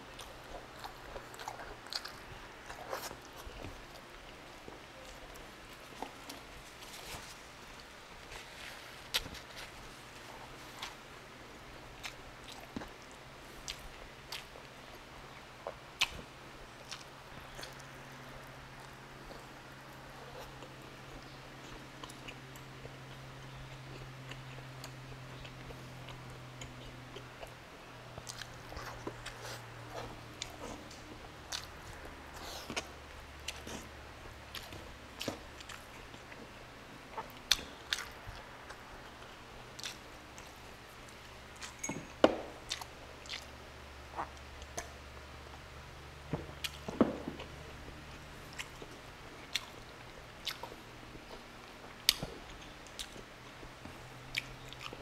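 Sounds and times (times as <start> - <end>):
chewing soft food: 0.0 - 55.0.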